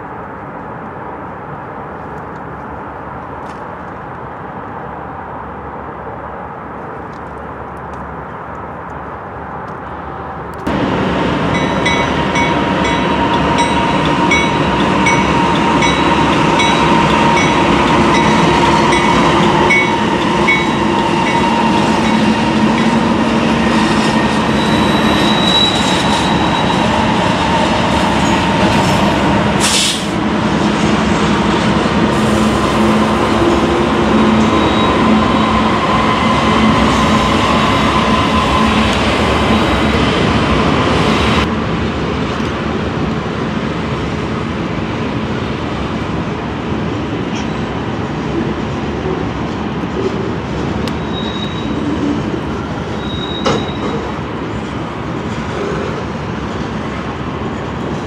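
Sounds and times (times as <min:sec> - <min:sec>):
train railcars rumbling: 0:00.0 - 0:58.0.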